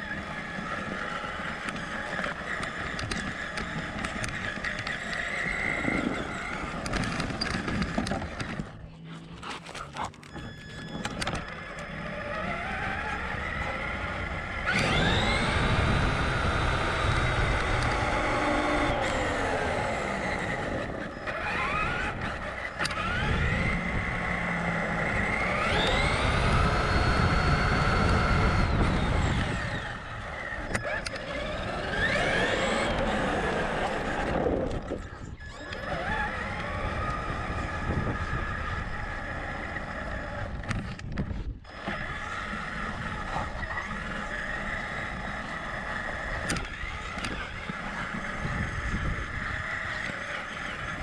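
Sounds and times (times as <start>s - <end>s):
electric motor whining: 0.0s - 51.0s
tyres rumbling on asphalt: 0.0s - 51.0s.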